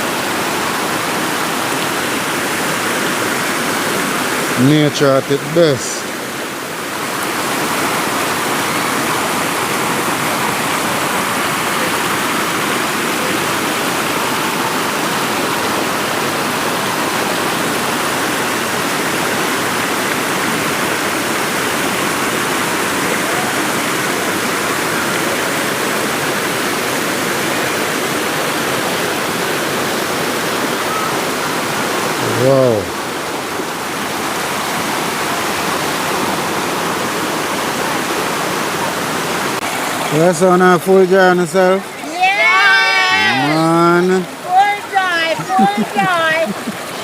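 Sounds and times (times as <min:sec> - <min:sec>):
river water rushing over rocks: 0:00.0 - 0:47.0.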